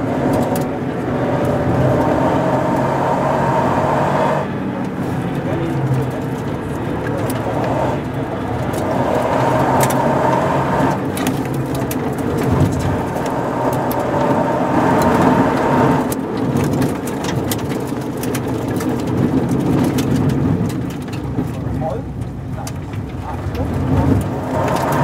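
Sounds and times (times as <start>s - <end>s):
sharp clicks and rattles: 0.0s - 3.0s, 4.7s - 25.0s
car engine pulling hard: 0.0s - 25.0s
tyre and road noise: 0.0s - 25.0s.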